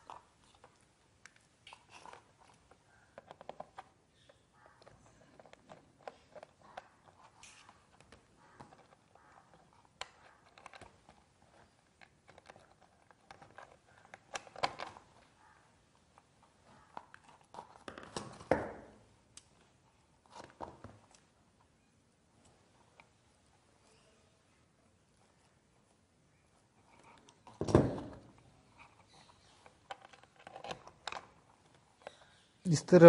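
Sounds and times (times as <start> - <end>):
small clicks and scrapes of wires: 0.0 - 18.3, 19.3 - 21.7, 25.1 - 27.6, 28.3 - 32.6.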